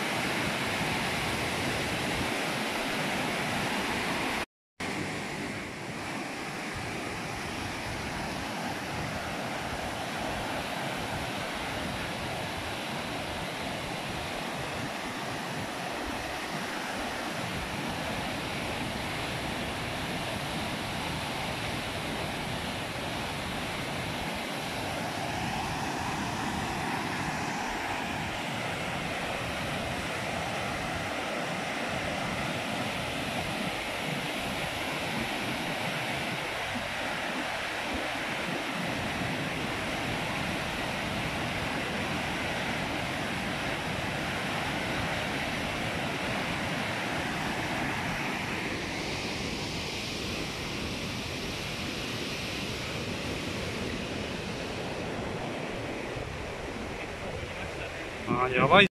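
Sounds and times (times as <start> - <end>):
river water rushing through rapids: 0.0 - 58.9.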